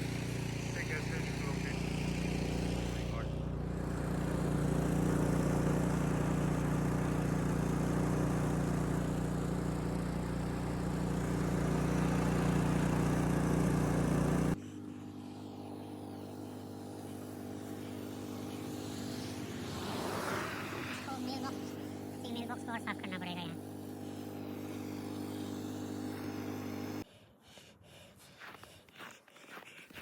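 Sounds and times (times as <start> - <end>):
engine running: 0.0 - 27.1.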